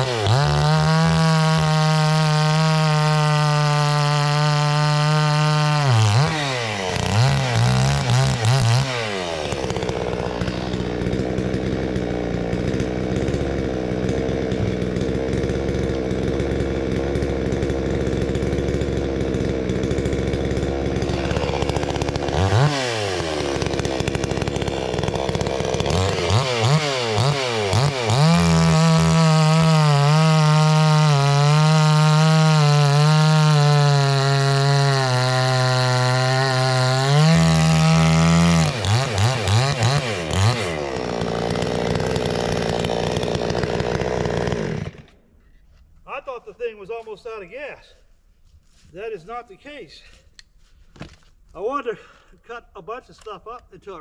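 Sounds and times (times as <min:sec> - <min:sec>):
chainsaw revving: 0:00.0 - 0:45.3.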